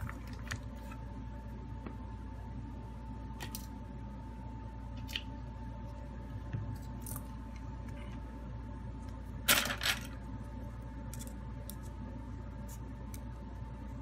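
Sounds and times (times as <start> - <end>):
faint hum with high tone: 0.0 - 14.0.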